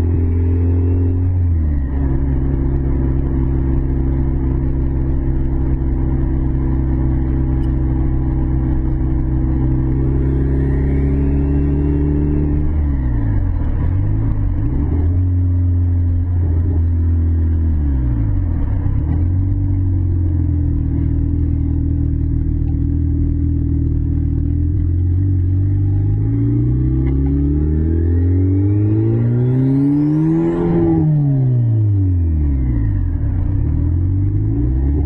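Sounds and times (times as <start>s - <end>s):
car engine from inside cabin: 0.0s - 35.0s.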